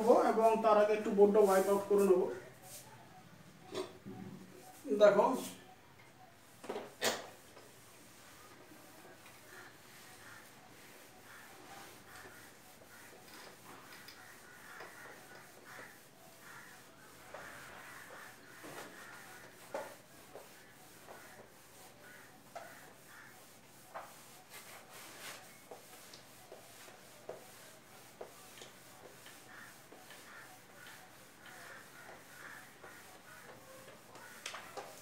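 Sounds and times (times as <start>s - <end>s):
whiteboard rubbing strokes: 0.0s - 3.1s, 7.0s - 35.0s.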